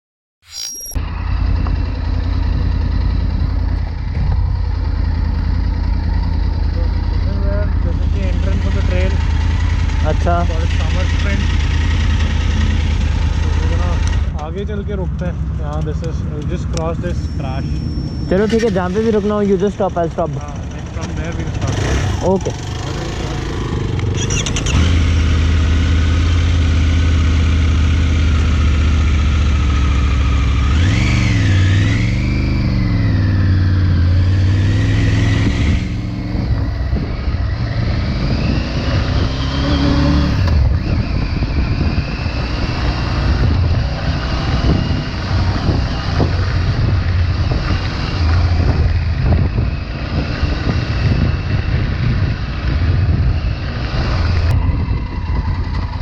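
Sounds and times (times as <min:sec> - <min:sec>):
motorcycle engine revving: 0:01.0 - 0:56.0.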